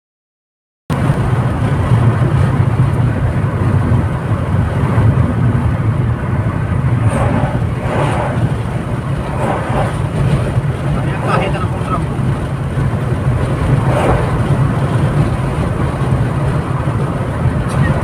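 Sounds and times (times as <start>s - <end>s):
car road and engine rumble: 0.9s - 18.0s
trucks passing: 1.3s - 18.0s.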